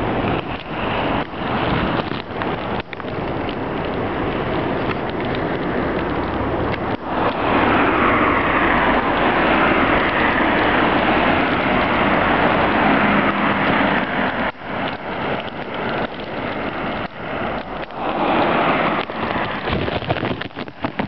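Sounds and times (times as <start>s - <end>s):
tyres on slushy road: 0.0s - 21.0s
wind on microphone: 0.0s - 21.0s.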